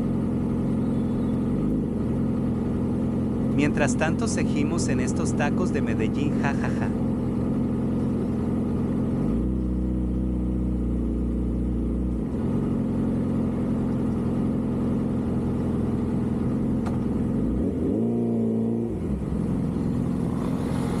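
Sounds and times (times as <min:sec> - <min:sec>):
vehicle engines running: 0:00.0 - 0:21.0.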